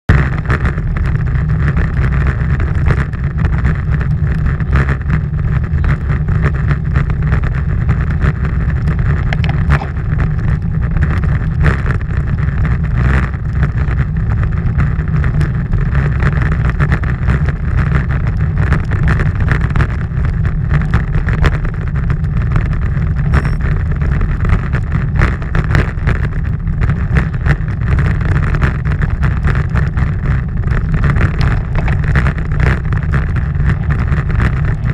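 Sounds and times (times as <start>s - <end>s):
wind buffeting microphone: 0.2s - 34.9s.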